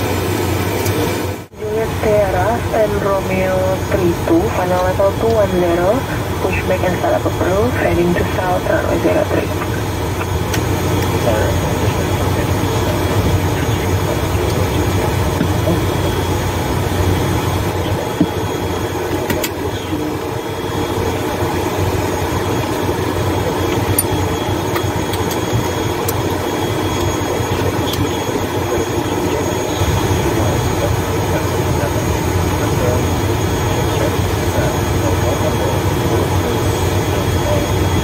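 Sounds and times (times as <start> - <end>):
turboprop engine idling drone: 0.0 - 38.0.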